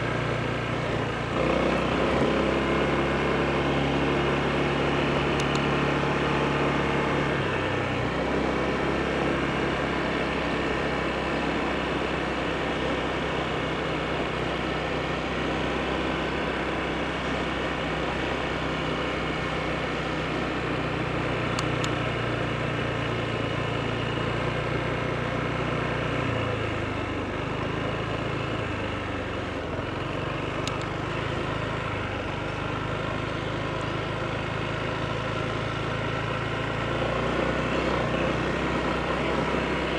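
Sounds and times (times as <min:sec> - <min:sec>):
scooter engine running: 0:00.0 - 0:39.9
wind and road noise: 0:00.0 - 0:39.9.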